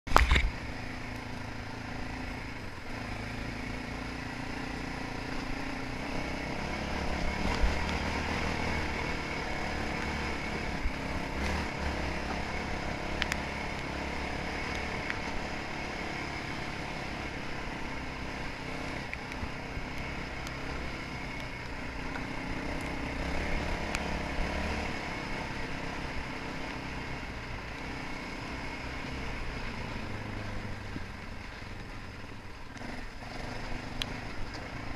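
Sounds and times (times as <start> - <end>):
dirt bike engine revving: 0.1 - 31.1.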